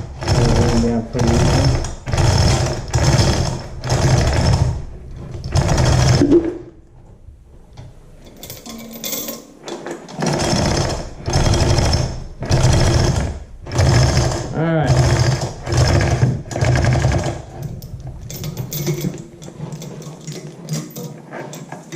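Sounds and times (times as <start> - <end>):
chain hoist rattling: 0.0 - 6.2, 8.2 - 21.9.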